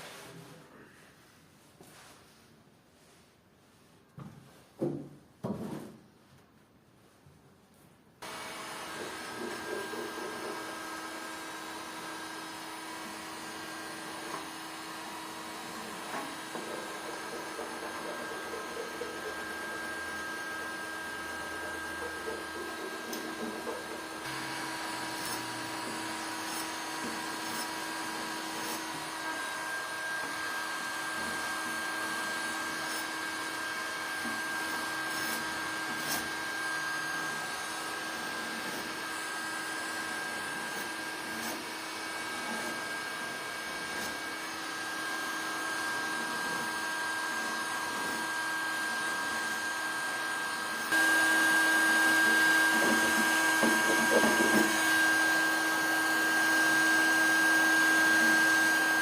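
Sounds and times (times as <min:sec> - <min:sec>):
electric blower motor whine: 0:08.2 - 0:59.0.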